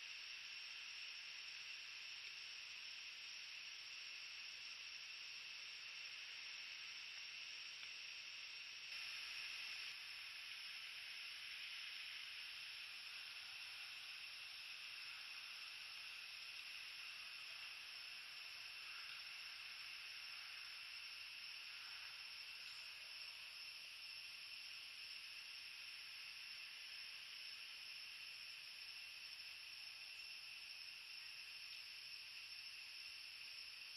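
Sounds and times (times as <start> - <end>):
night insects chorus: 0.0 - 33.9.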